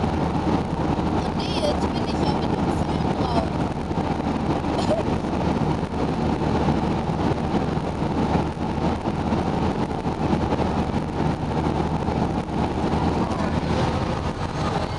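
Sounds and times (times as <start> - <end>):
car road noise from inside: 0.0 - 14.9.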